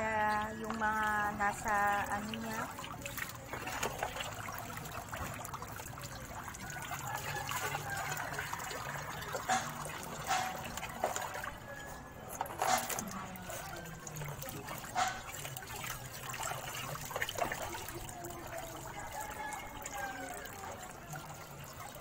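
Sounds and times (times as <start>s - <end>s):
water poured and splashing: 0.0s - 22.0s.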